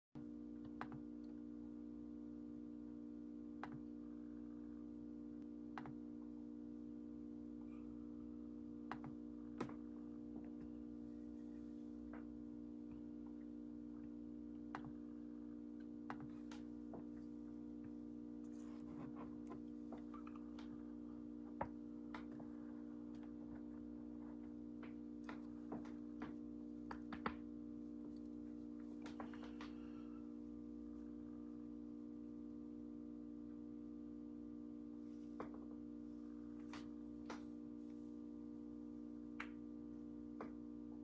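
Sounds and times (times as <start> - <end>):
low hum of held tones: 0.2 - 41.0.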